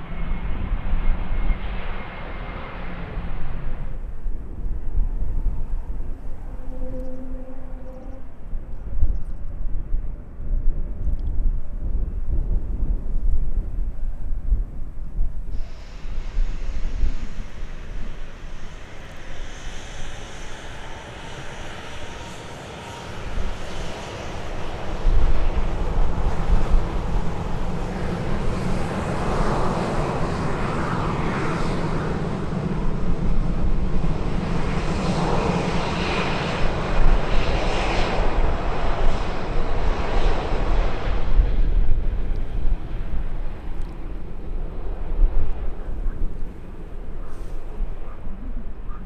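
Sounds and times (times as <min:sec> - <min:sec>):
airliner engines roaring: 0:00.0 - 0:49.0.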